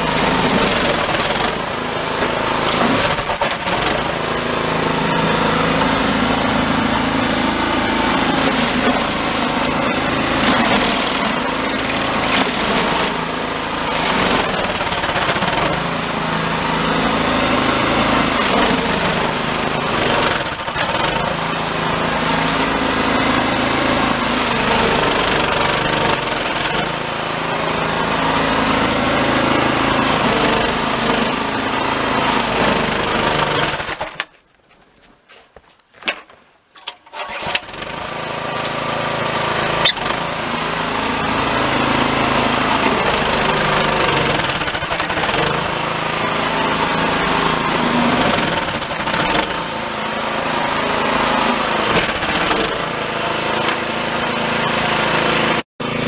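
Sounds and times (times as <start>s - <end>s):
snowblower running under load: 0.0s - 34.4s, 37.1s - 56.0s.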